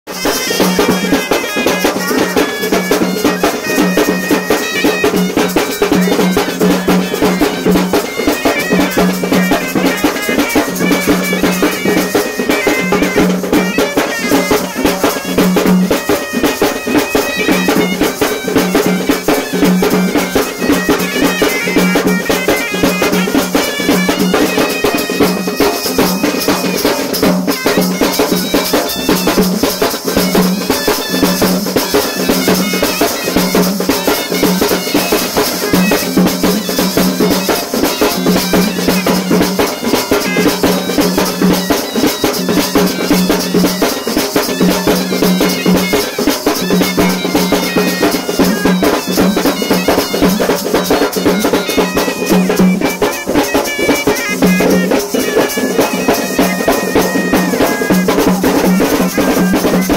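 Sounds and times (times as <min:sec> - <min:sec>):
fast dense drumming: 0:00.1 - 0:59.9
wind instrument melody: 0:00.1 - 0:59.9.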